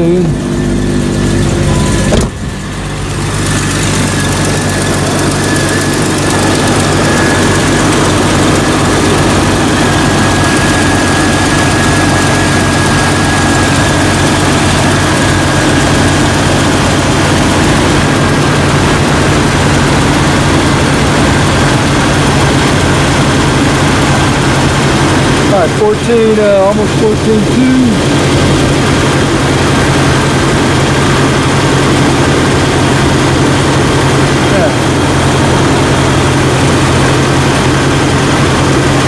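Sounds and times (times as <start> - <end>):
car engine idling: 0.0 - 39.0
thin high whine: 0.0 - 39.0.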